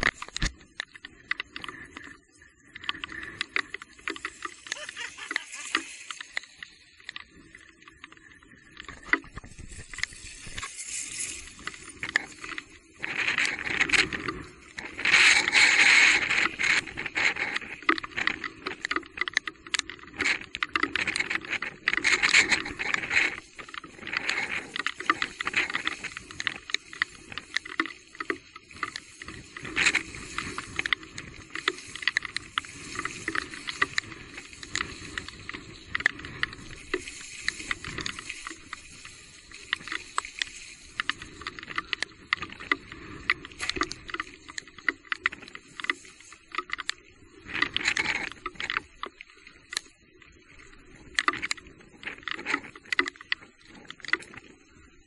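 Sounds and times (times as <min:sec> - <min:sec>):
bicycle riding on wet trail: 0:00.0 - 0:55.0.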